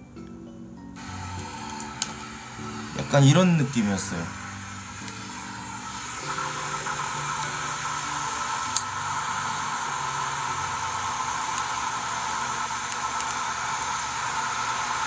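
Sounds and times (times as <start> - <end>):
steady rushing noise: 1.0 - 15.0.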